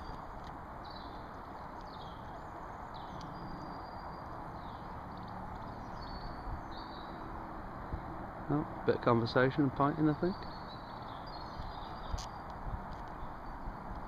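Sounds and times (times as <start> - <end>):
outdoor background hiss: 0.0 - 14.0
small birds chirping: 0.0 - 14.0.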